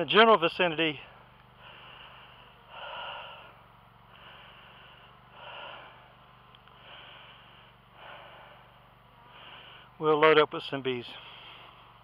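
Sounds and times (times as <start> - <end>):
faint low hum: 0.3 - 12.0
man breathing heavily: 1.0 - 10.0, 11.1 - 12.0.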